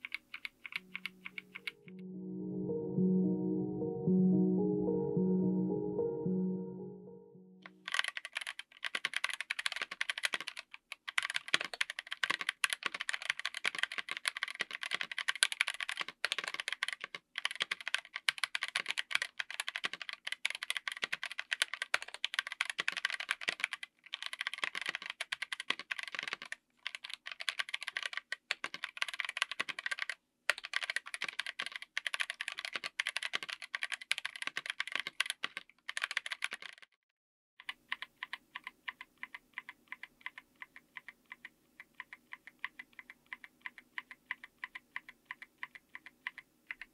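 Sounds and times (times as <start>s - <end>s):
mechanical keyboard typing: 0.0s - 1.8s, 7.6s - 36.9s, 37.6s - 46.9s.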